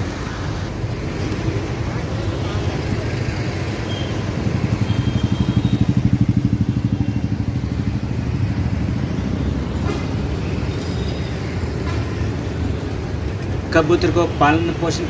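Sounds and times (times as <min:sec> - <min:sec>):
rumble of passing traffic: 0:00.0 - 0:15.0.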